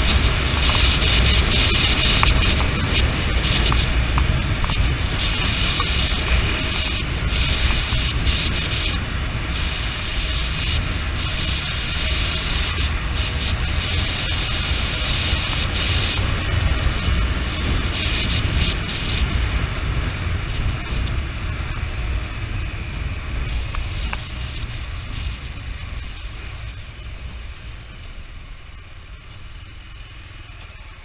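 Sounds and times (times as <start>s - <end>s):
wind rushing over microphone: 0.0s - 28.9s
motorcycle engine rumble: 0.0s - 31.0s.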